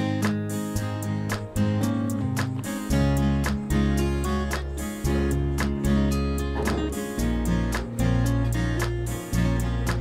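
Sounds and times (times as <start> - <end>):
instrumental music with bass line: 0.0 - 10.0.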